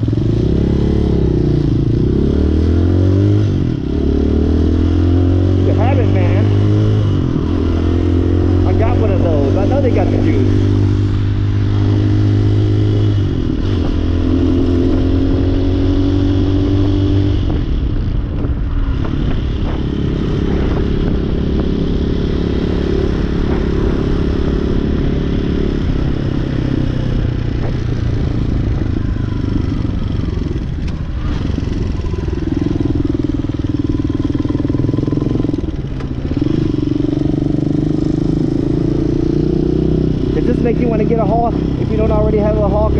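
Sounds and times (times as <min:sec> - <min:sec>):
motorcycle engine running: 0:00.0 - 0:42.9
road and wind noise: 0:00.0 - 0:42.9.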